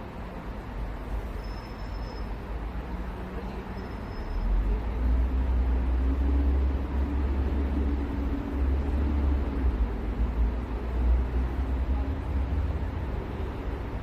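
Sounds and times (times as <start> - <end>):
city traffic: 0.0 - 14.0
vehicle engine rumble: 0.0 - 14.0.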